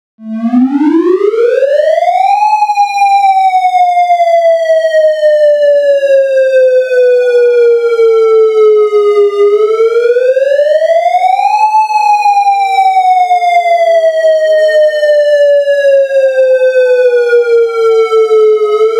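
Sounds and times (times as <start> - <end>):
synthesizer siren tone sweeping: 0.2 - 18.9.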